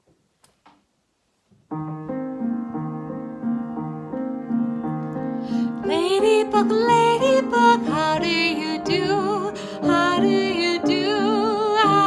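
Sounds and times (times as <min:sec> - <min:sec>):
piano playing children's song: 0:01.7 - 0:12.0.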